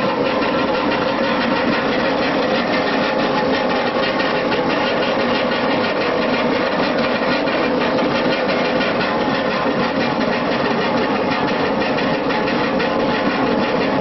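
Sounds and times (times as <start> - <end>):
crusher churning grapes: 0.0 - 14.0
grape crusher motor running: 0.0 - 14.0.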